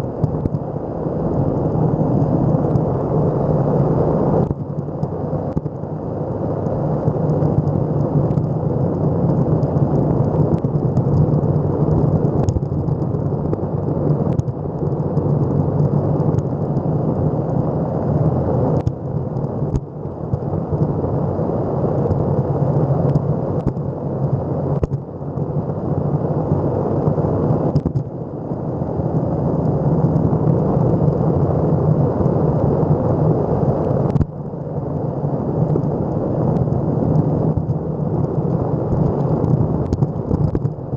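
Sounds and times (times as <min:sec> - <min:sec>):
skateboard wheels rumbling on asphalt: 0:00.0 - 0:40.9.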